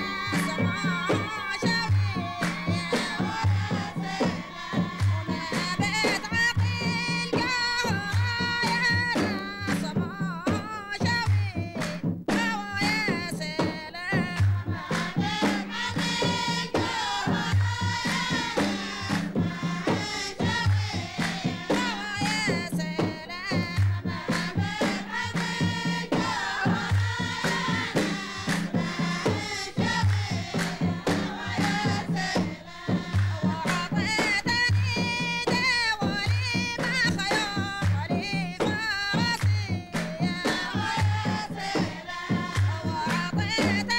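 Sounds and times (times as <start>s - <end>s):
barrel drums beating: 0.0s - 43.9s
voices singing: 0.0s - 43.9s.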